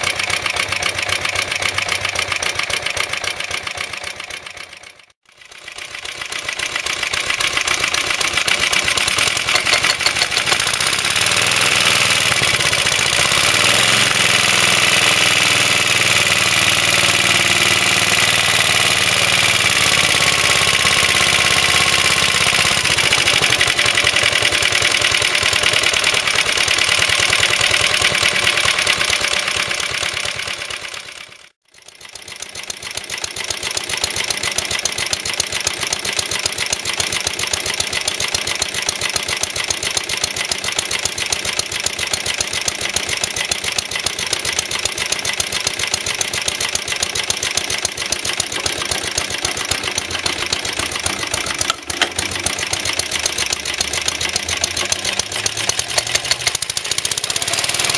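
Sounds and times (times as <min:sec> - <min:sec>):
petrol mower engine running: 0:00.0 - 0:57.9.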